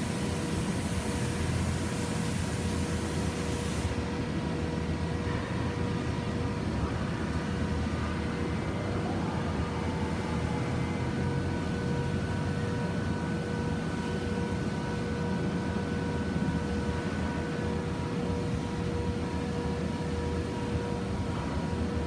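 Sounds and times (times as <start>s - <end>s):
machine hum with held tones: 0.0s - 22.0s.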